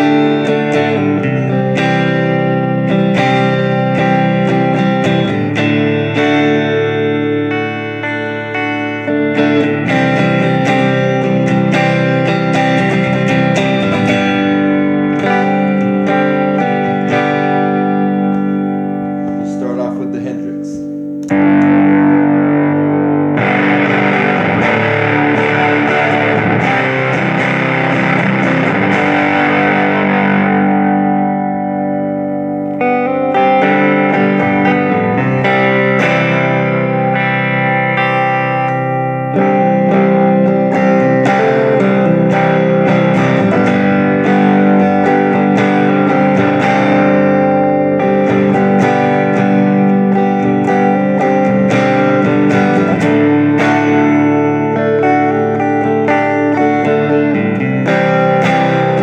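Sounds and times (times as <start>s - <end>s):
electric guitar chords and notes: 0.0s - 59.0s.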